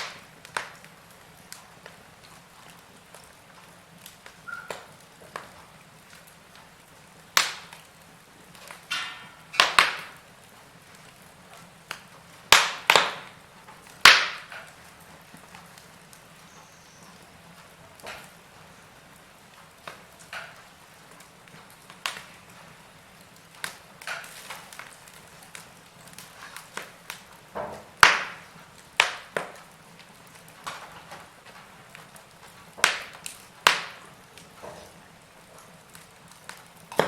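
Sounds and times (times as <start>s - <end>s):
soft steady hiss: 0.0s - 37.0s
wood fire crackling and popping: 0.0s - 37.0s.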